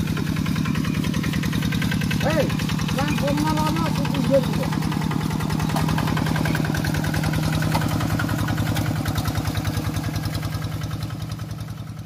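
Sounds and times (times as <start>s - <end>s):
diesel engine chugging: 0.0s - 12.0s.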